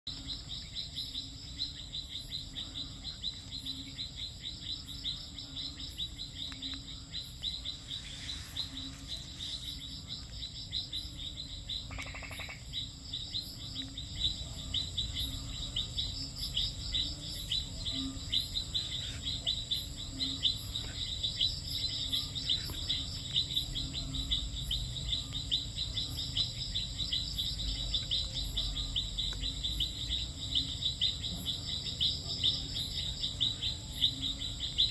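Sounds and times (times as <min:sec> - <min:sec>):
crickets trilling: 0:00.1 - 0:34.9
high-pitched insect whine: 0:00.1 - 0:34.9
insect ticks: 0:00.1 - 0:34.9.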